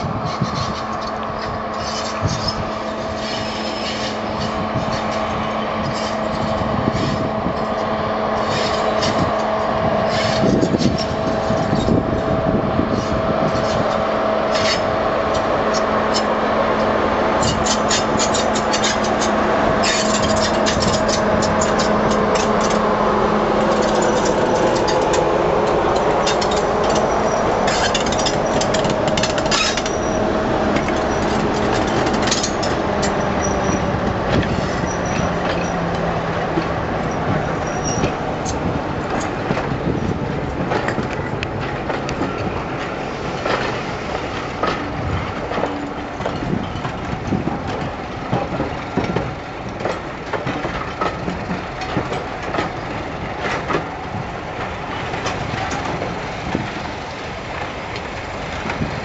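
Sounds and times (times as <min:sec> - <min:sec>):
diesel locomotive engine drone: 0:00.0 - 0:59.0
train wheel clicks: 0:00.2 - 0:12.3, 0:12.9 - 0:59.0.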